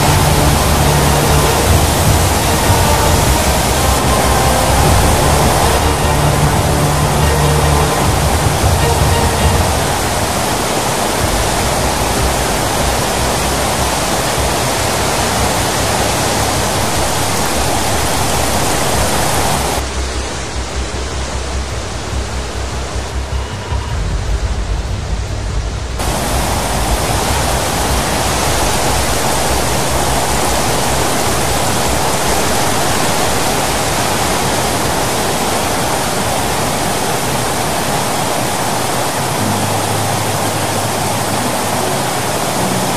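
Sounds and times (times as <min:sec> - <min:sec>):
deep water rumble: 0:00.0 - 0:42.9
water rushing roar: 0:00.0 - 0:42.9.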